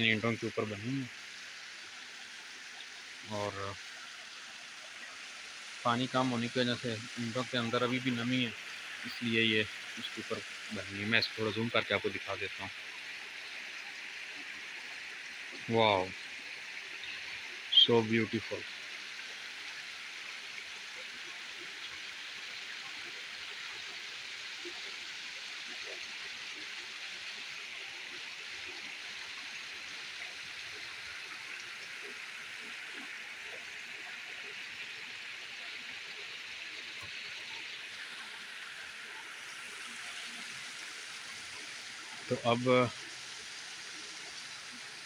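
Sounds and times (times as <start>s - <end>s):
shallow water rushing: 0.0s - 23.9s, 24.6s - 45.0s.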